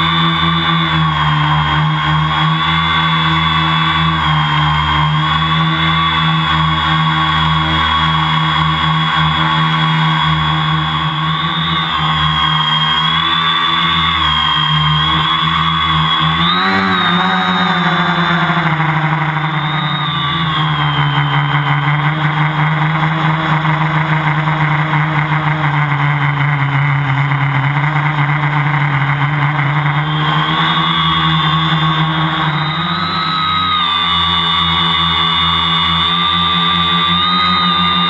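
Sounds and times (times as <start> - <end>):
electric drone motors whining: 0.0 - 38.0.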